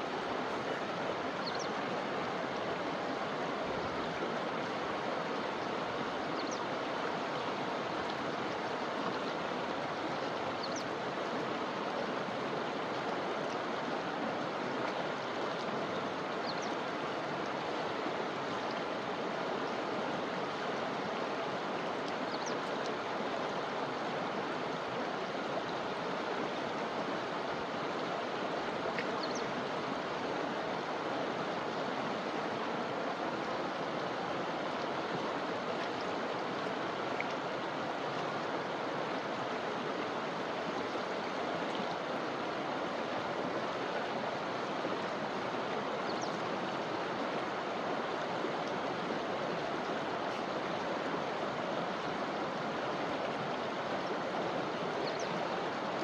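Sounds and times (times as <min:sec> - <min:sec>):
river flowing over rocks: 0:00.0 - 0:56.0.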